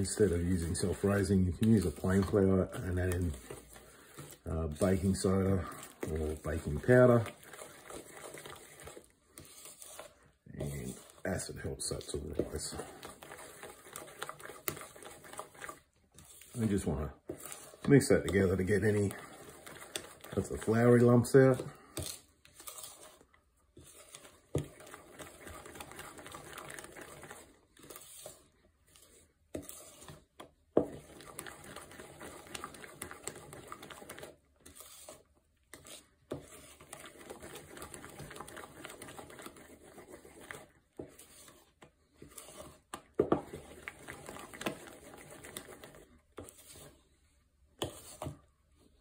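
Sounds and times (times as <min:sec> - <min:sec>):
spoon stirring thick batter: 0:00.0 - 0:49.0.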